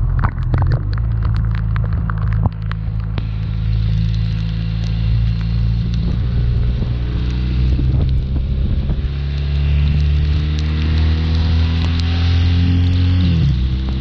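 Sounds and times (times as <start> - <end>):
motorcycle engine rumbling: 0.0 - 14.0
wind noise on microphone: 0.0 - 14.0.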